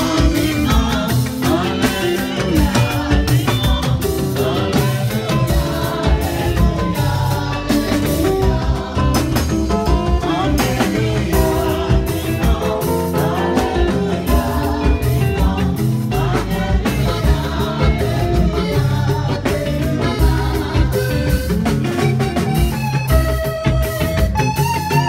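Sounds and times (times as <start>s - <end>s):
choir singing: 0.0s - 22.2s
amplified instruments: 0.0s - 25.0s
steady beat: 0.0s - 25.0s.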